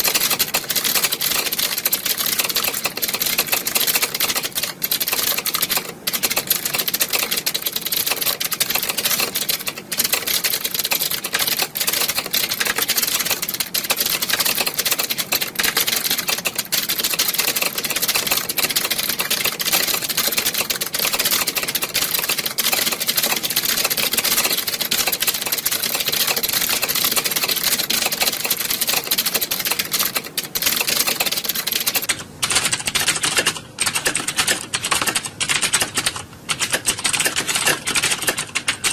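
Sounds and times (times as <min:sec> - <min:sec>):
keyboards typing clatter: 0:00.0 - 0:38.9.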